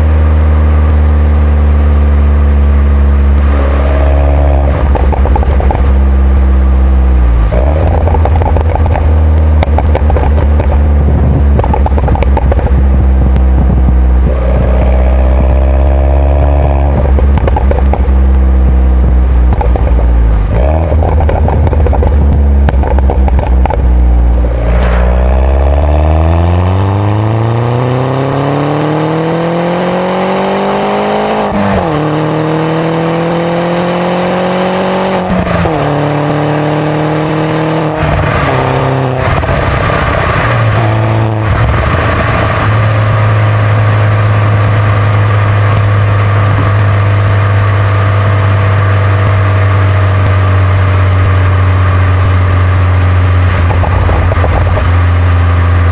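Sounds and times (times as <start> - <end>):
car engine accelerating through gears: 0.0 - 55.9.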